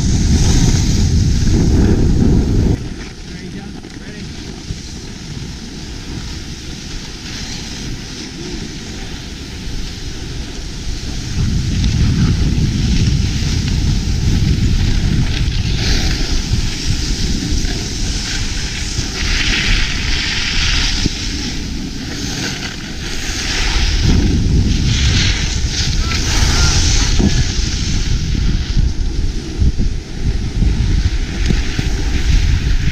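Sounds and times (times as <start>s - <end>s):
low rumble: 0.0s - 32.9s
skis scraping on snow: 0.0s - 32.9s
wind buffeting microphone: 0.0s - 32.9s.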